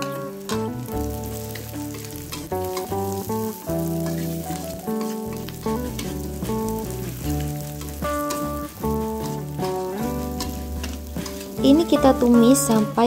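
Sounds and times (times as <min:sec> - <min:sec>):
stirring clicks: 0:00.0 - 0:12.9
instrumental background music: 0:00.0 - 0:13.0
vegetables sizzling in hot oil: 0:00.0 - 0:13.0.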